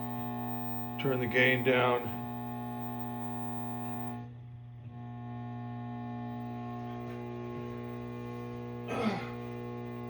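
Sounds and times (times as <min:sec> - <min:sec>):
amplifier mains hum: 0:00.0 - 0:10.0
high electrical buzzing: 0:00.0 - 0:10.0.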